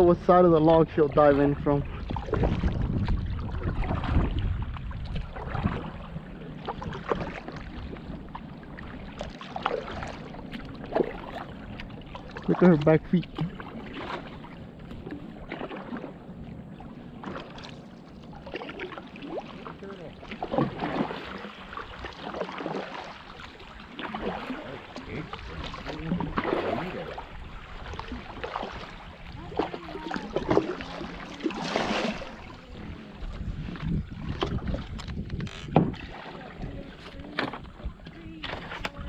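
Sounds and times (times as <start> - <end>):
paddle splashing through water: 0.0 - 39.0.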